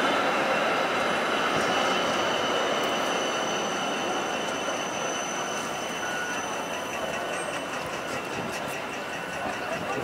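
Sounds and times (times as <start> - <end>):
high squeal from tram wheels: 0.0 - 10.0
tram running on rails: 0.0 - 10.0.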